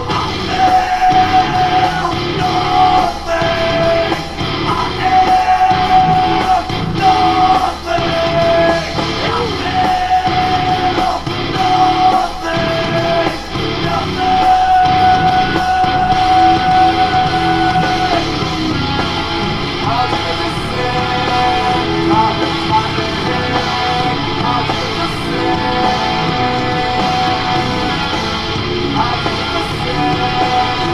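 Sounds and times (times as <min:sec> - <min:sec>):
rock music with singing: 0:00.0 - 0:30.9.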